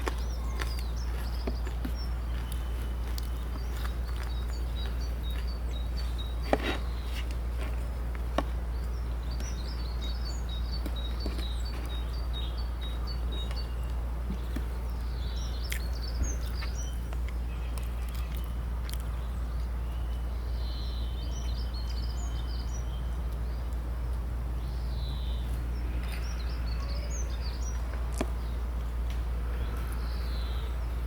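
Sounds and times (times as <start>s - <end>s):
low outdoor rumble: 0.0s - 31.0s
small birds chirping: 0.0s - 31.0s.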